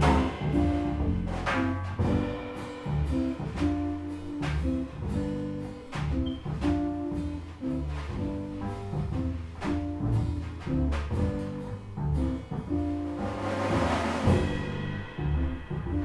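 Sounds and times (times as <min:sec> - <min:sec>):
drums with cymbal strokes: 0:00.0 - 0:16.0
walking bass: 0:00.0 - 0:16.0.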